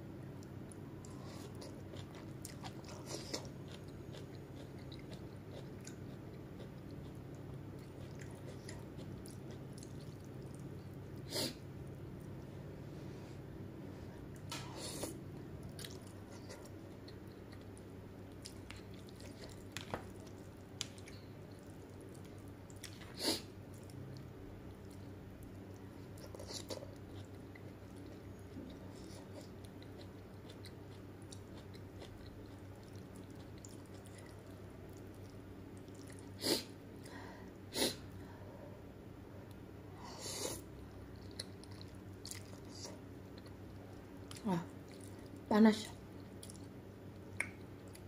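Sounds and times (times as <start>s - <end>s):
person chewing noodles: 0.4s - 11.6s, 14.3s - 37.2s, 40.0s - 45.4s, 46.1s - 48.0s.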